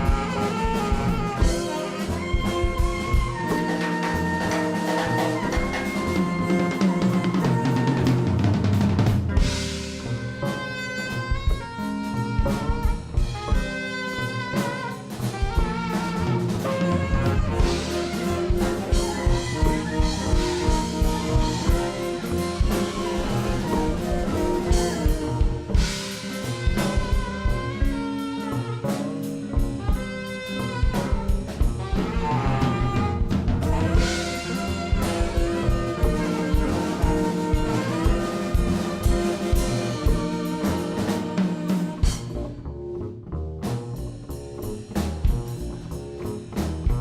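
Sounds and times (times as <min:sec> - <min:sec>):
drum kit beat: 0:00.0 - 0:42.8, 0:43.6 - 0:47.0
jazz band playing: 0:00.0 - 0:47.0.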